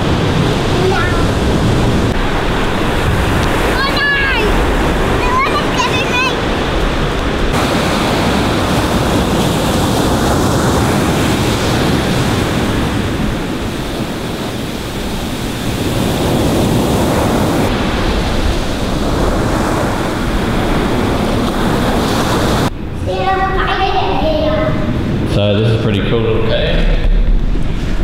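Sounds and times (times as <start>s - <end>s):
ocean surf breaking on beach: 0.0s - 23.2s.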